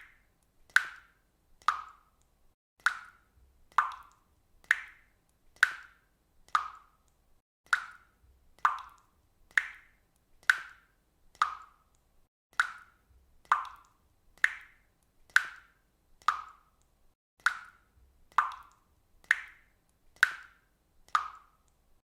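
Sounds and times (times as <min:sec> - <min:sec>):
water dripping: 0:00.0 - 0:22.0.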